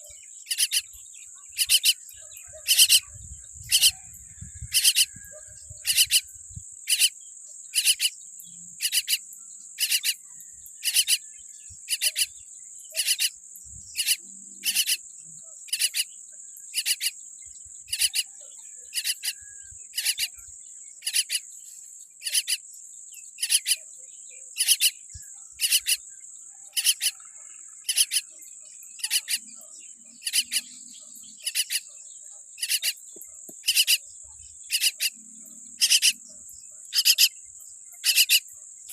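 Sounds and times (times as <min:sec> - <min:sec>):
high-pitched insect trill: 0:00.0 - 0:38.9.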